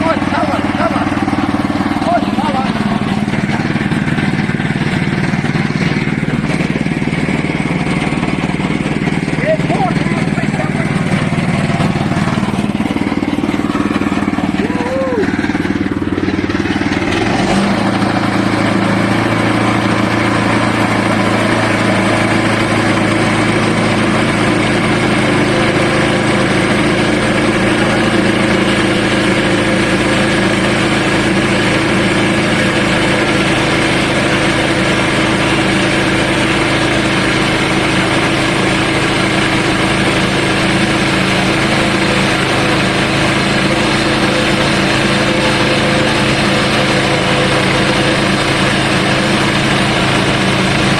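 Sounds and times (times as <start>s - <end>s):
sawmill engine cutting log: 0.0s - 50.9s.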